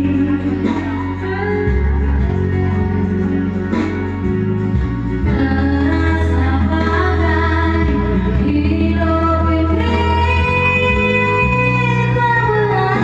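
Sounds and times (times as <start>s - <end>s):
song with heavy bass line: 0.0s - 13.0s.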